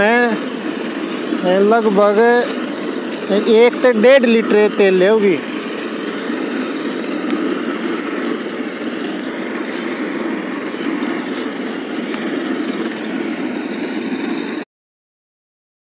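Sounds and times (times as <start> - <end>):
reaper petrol engine running: 0.0 - 14.6.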